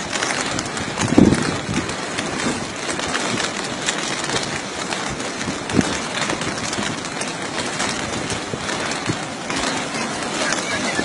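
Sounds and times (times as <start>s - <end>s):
strong wind: 0.0s - 11.0s
waves breaking in rough sea: 0.0s - 11.0s.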